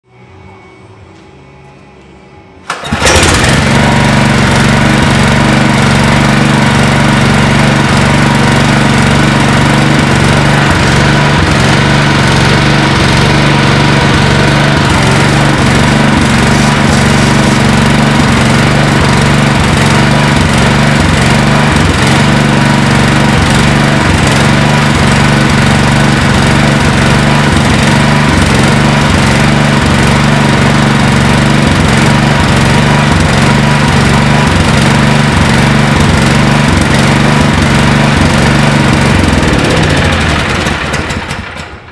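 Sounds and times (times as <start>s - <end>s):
portable generator engine running: 2.6s - 41.9s.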